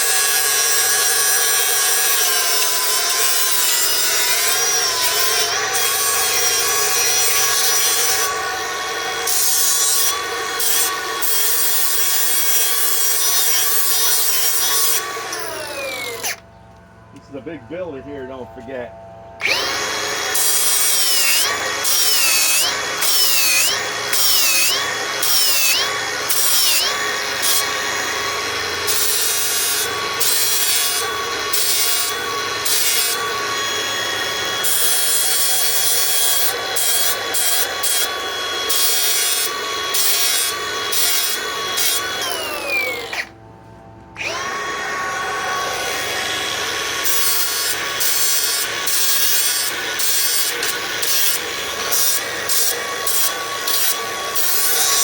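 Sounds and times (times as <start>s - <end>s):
angle grinder grinding metal: 0.0s - 16.4s, 17.1s - 43.4s, 44.2s - 55.0s.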